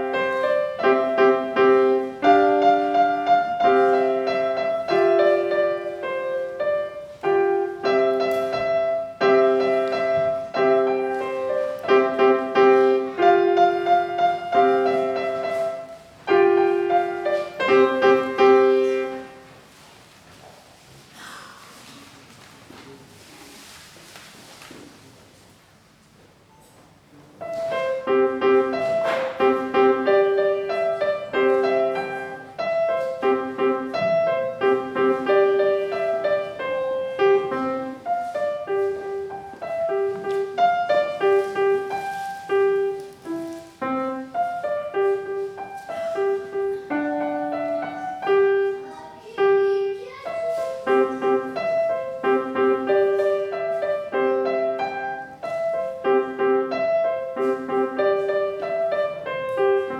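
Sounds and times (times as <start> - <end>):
piano piece: 0.0 - 21.3, 26.5 - 59.9.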